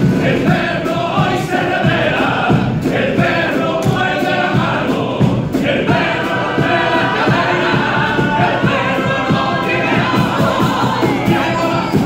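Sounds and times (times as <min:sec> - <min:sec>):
drum beats: 0:00.0 - 0:12.0
male choir singing in harmony: 0:00.0 - 0:12.0.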